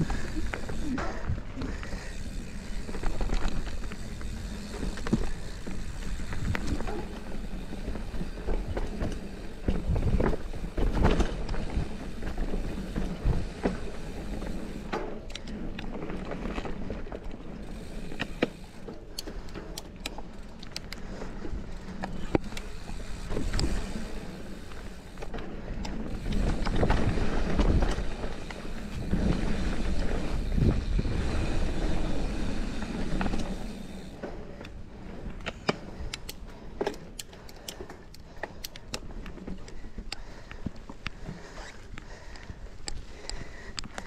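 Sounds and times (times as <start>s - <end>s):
bike clicks and rattles: 0.0s - 44.0s
knobby tyres rumbling on dirt trail: 0.0s - 44.0s.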